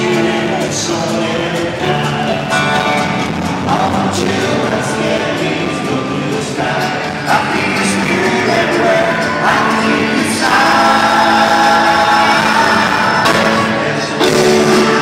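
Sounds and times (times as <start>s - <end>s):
jam band playing live: 0.0s - 15.0s
person singing: 0.0s - 15.0s.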